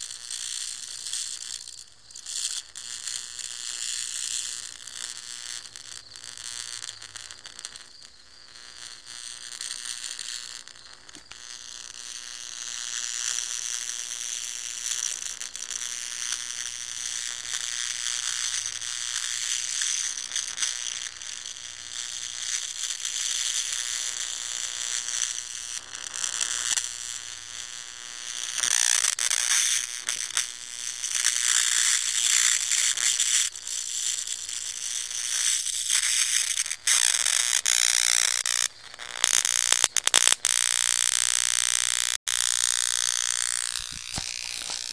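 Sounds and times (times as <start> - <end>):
bug zapper crackling sizzle: 0.0 - 44.9.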